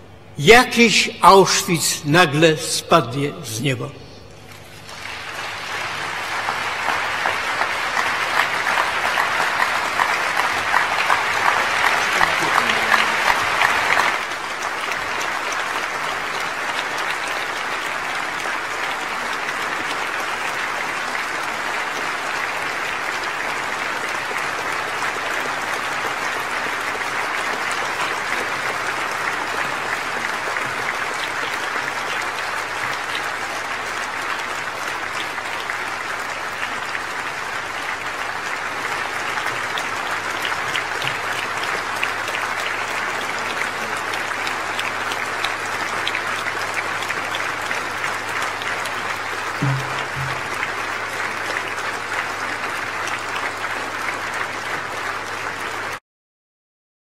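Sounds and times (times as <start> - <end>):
large audience applauding: 0.4 - 3.9, 4.8 - 56.0.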